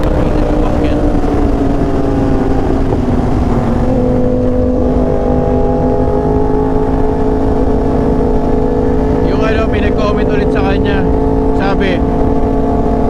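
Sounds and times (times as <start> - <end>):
motorcycle engine cruising: 0.0 - 13.0
wind rumble on microphone: 0.0 - 13.0.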